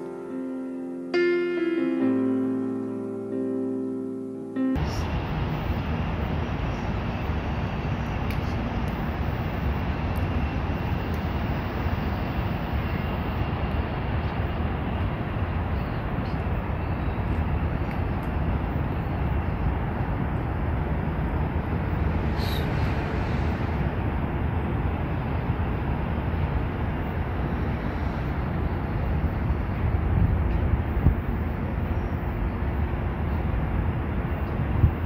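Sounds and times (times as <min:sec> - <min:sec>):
low city rumble: 0:00.0 - 0:35.0.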